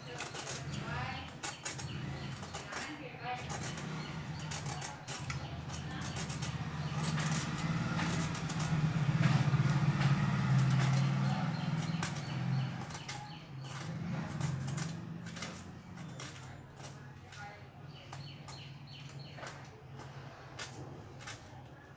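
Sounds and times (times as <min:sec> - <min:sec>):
peeler scraping gourd skin: 0:00.0 - 0:21.9.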